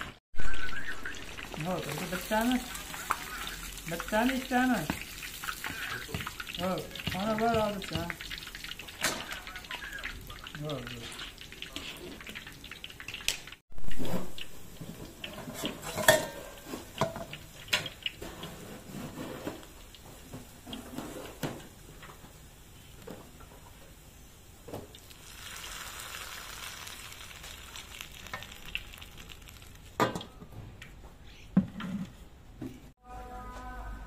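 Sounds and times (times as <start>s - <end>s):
fried fish sizzling: 0.0s - 30.4s.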